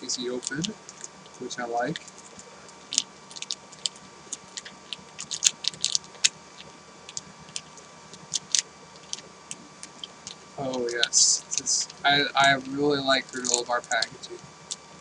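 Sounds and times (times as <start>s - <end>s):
plastic wrapper crinkling: 0.4s - 14.8s.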